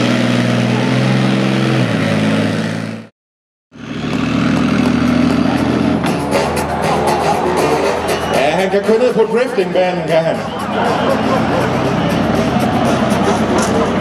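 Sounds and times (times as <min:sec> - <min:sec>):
tank diesel engine running: 0:00.0 - 0:03.1, 0:03.7 - 0:14.0.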